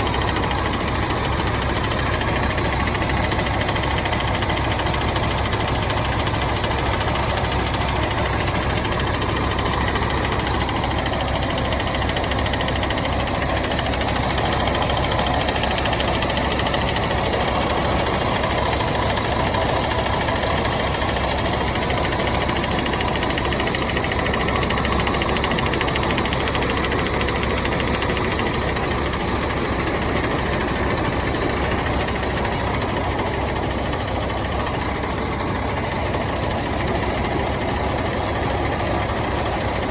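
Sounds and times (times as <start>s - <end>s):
diesel bus engine idling: 0.0s - 39.9s.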